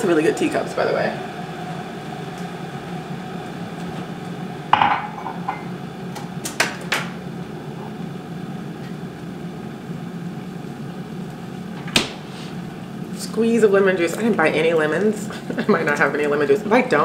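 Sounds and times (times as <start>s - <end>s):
refrigerator hum: 0.0s - 17.0s.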